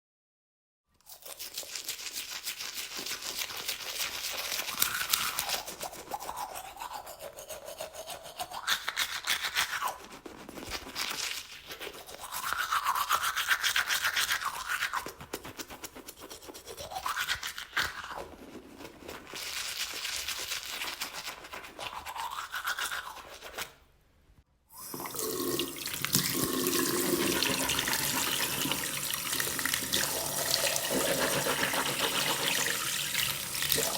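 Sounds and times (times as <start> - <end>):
toothbrush scrubbing teeth: 1.0 - 23.8, 24.8 - 33.9.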